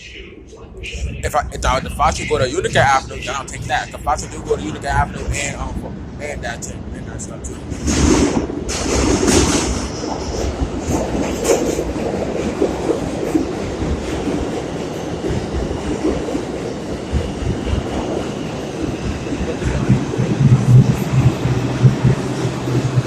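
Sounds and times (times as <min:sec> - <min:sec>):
subway train wheels clattering: 0:00.8 - 0:23.0.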